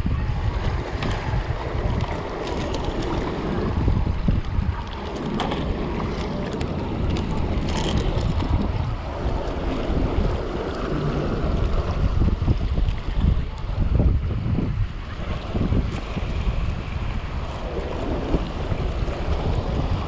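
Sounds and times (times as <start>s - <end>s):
small waves against rocks: 0.0s - 20.0s
wind buffeting microphone: 0.0s - 20.0s.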